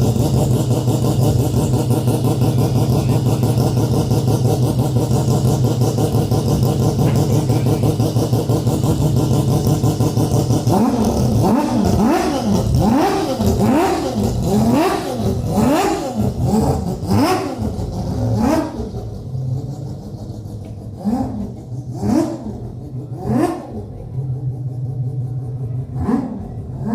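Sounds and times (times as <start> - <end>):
engine idling and revving: 0.0 - 26.9.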